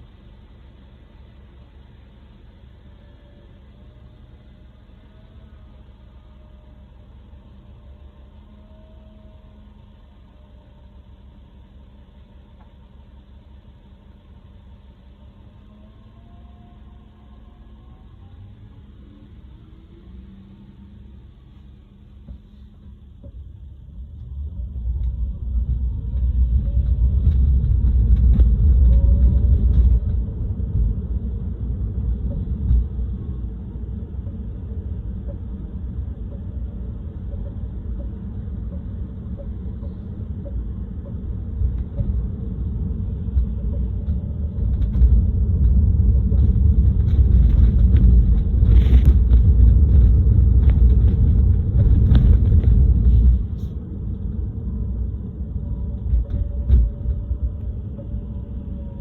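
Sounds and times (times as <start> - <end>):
car road and tyre rumble: 0.0 - 59.0.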